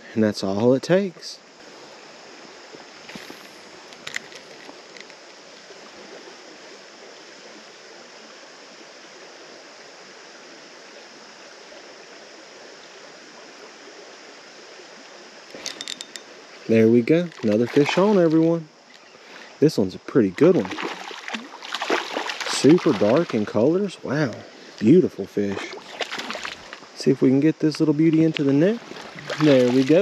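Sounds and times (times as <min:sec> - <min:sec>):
shallow creek rushing: 0:00.0 - 0:30.0.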